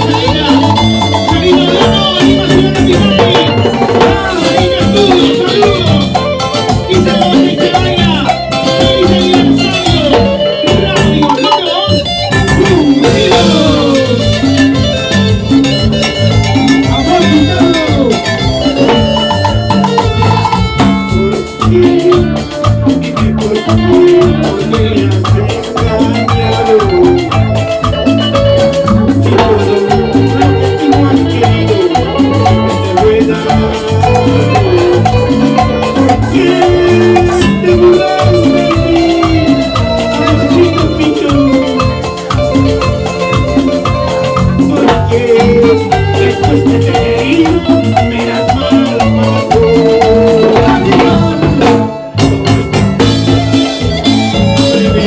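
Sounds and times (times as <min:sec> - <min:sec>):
latin dance band playing: 0:00.0 - 0:55.0.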